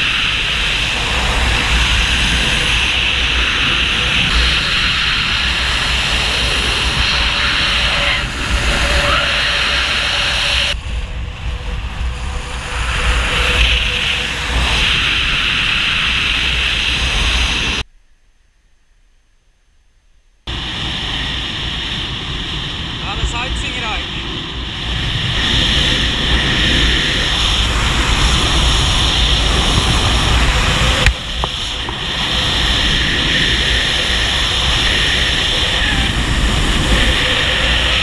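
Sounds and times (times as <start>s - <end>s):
wind rushing over microphone: 0.0s - 17.8s, 20.5s - 38.0s.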